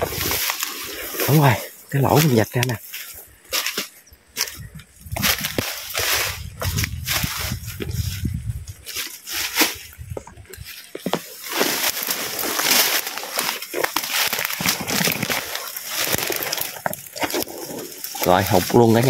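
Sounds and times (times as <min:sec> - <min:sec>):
dry leaves and twigs rustling: 0:00.0 - 0:19.0.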